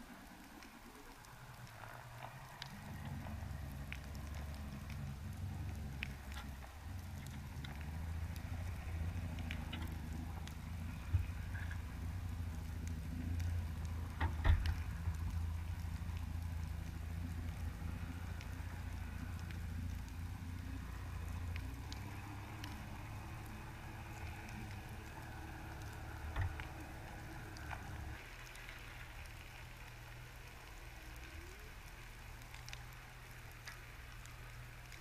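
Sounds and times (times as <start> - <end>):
low hum: 0.0 - 35.0
sharp underwater clicks: 0.0 - 35.0
underwater crackle: 0.0 - 35.0.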